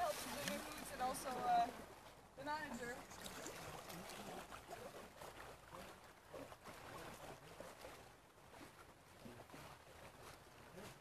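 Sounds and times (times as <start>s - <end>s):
small water splashes: 0.0s - 11.0s
water lapping and trickling: 0.0s - 11.0s.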